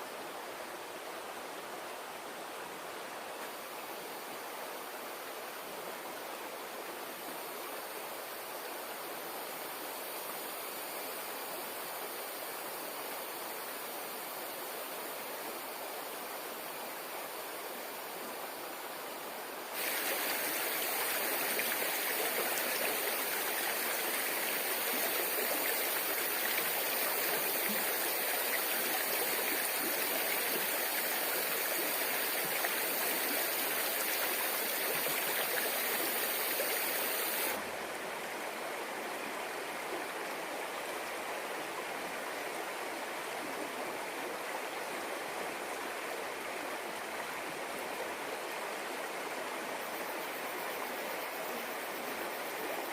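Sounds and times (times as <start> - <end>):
stream water flowing: 0.0 - 52.9.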